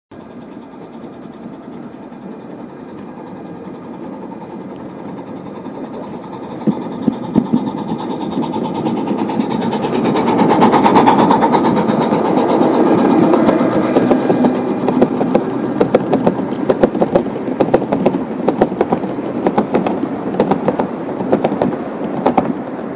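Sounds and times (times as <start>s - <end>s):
model train wheels clicking: 0.4s - 22.6s.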